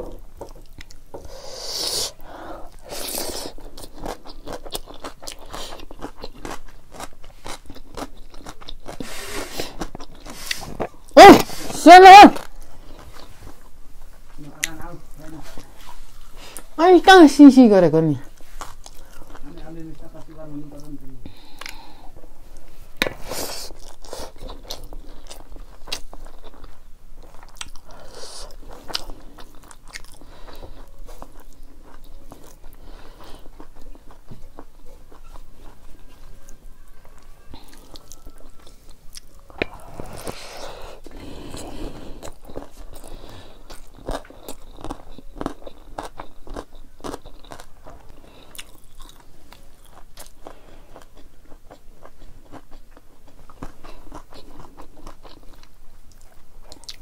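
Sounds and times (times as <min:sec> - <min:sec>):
chewing and crunching food: 0:00.0 - 0:01.5, 0:02.2 - 0:11.2, 0:12.4 - 0:17.2, 0:18.2 - 0:57.0.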